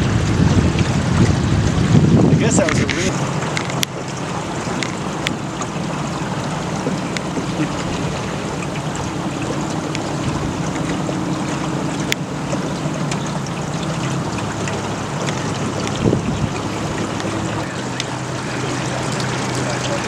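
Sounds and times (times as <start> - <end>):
motorboat engine humming: 0.0 - 20.0
water rushing: 0.0 - 20.0
wind: 0.0 - 20.0.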